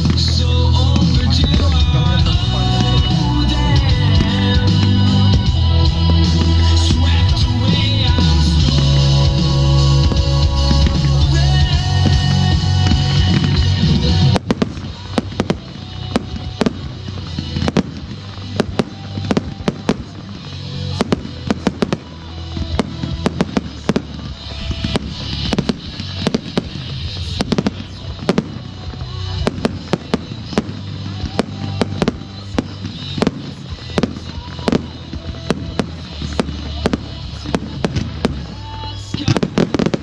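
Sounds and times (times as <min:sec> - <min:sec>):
fireworks bangs: 0:00.0 - 0:40.0
low rumble: 0:00.0 - 0:40.0.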